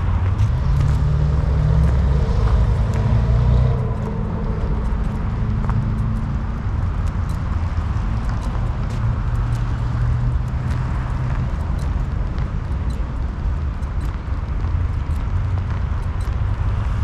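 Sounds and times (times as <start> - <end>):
footsteps clicking: 0.0 - 17.0
traffic rumble: 0.0 - 17.0.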